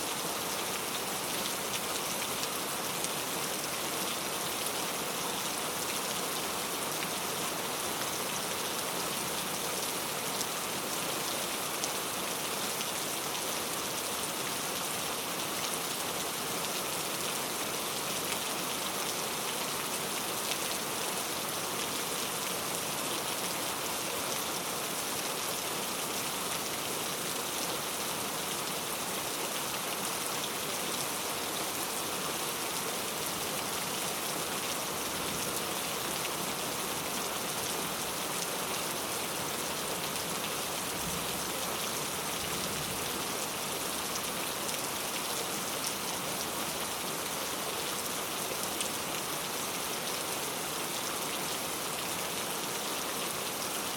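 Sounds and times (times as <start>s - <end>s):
rain pattering on a surface: 0.1s - 53.9s.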